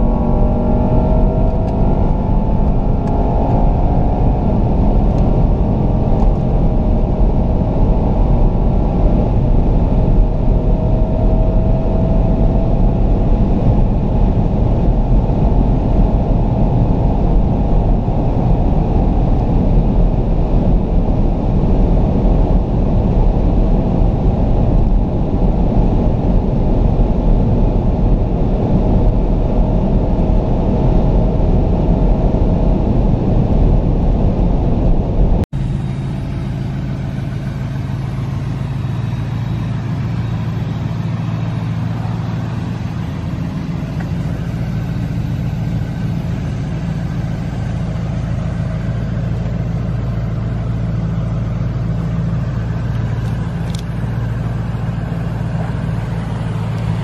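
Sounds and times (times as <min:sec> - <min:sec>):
car engine at high revs: 0:00.0 - 0:57.0
low hum: 0:00.0 - 0:57.0
wind and tyre roar: 0:00.0 - 0:57.0.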